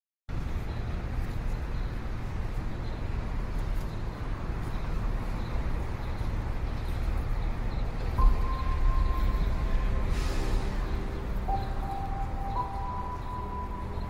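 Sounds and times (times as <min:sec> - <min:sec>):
city ambience low rumble: 0:00.3 - 0:14.0.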